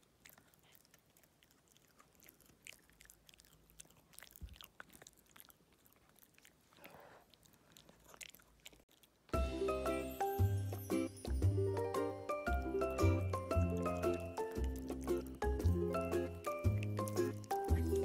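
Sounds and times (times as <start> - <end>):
puppy teeth crunching chew: 0.0 - 9.4, 12.5 - 18.0.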